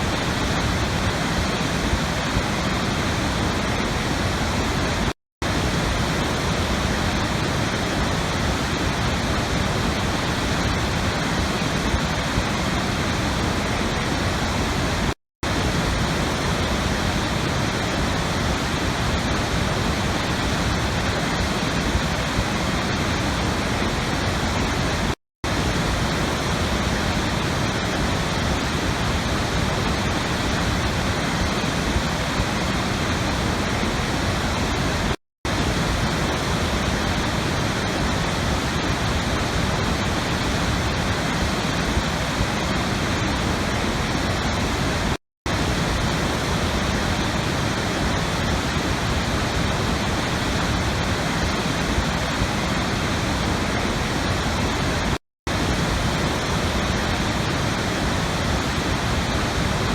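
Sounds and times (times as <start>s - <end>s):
rushing water roar: 0.0s - 59.9s.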